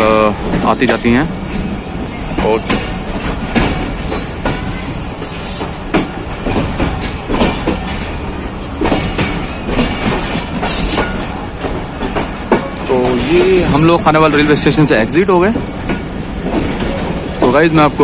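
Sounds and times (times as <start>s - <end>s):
train wheels rumbling on rails: 0.0s - 18.0s
wheels clattering over rail joints: 0.0s - 18.0s.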